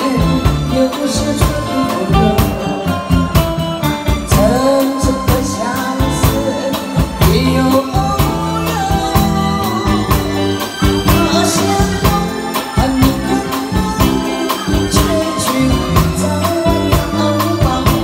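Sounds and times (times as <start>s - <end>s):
woman singing into microphone: 0.0s - 3.2s, 4.0s - 18.0s
guitar: 0.0s - 18.0s
keyboard: 0.0s - 18.0s
steady drum beat: 0.0s - 18.0s.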